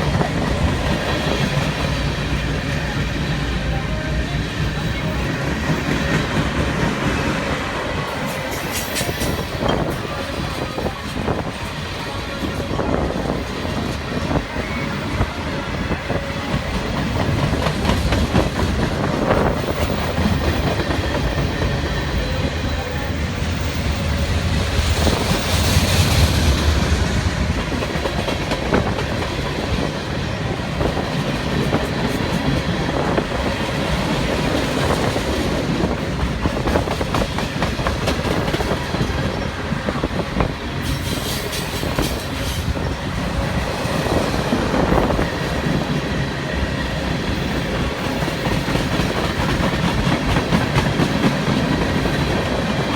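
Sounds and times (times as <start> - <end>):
freight train cars rumbling past: 0.0 - 52.9.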